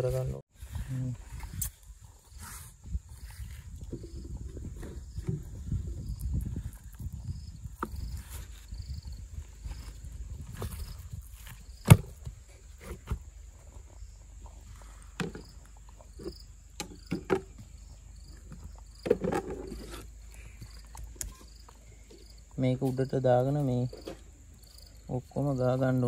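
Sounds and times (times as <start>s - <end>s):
insects chirping: 0.6s - 26.0s.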